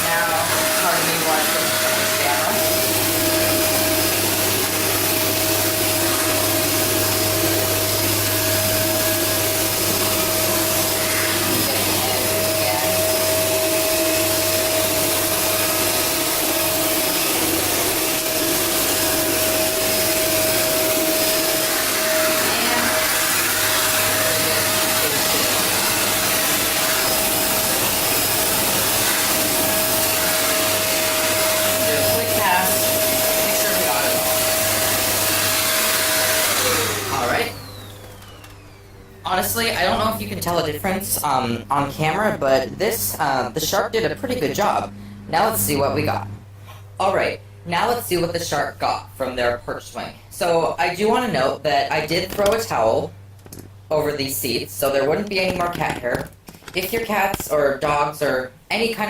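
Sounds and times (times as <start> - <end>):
vacuum cleaner whining: 0.0 - 59.0.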